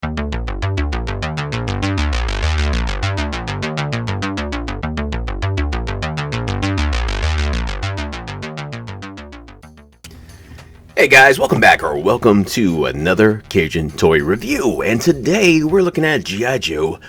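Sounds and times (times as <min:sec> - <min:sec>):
electronic synthesizer music: 0:00.0 - 0:16.1.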